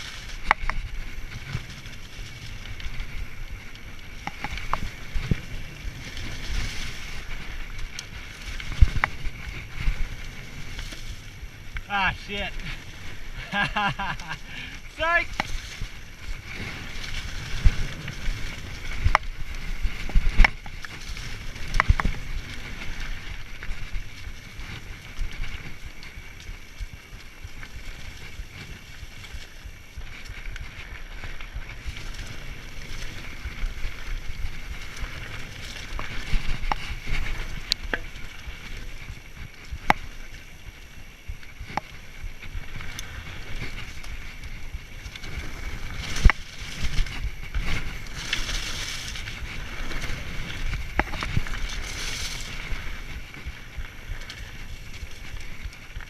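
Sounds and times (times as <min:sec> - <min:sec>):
outdoor rumble and hiss: 0:00.0 - 0:56.0.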